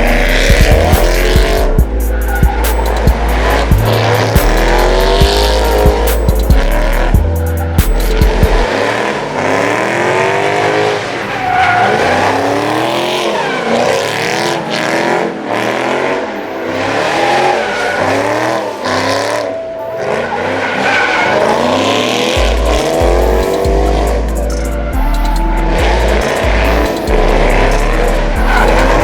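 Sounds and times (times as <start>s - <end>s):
car engine revving: 0.0s - 29.0s
tyres squealing: 0.1s - 14.7s, 16.6s - 29.0s.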